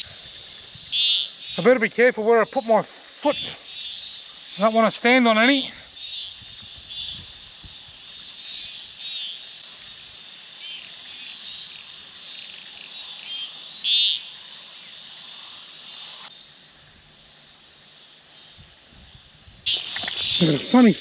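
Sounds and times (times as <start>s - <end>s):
frogs calling: 0.0s - 16.7s, 19.6s - 21.0s.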